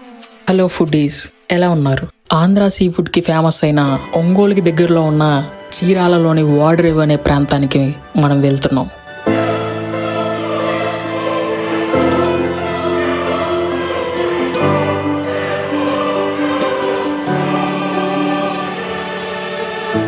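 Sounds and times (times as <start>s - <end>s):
choir singing held chords: 3.8s - 20.0s.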